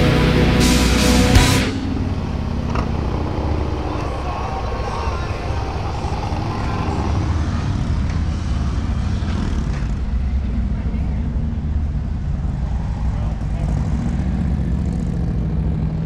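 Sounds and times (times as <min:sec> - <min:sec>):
outdoor background noise: 0:00.0 - 0:16.0
vehicle engine running: 0:00.0 - 0:16.0.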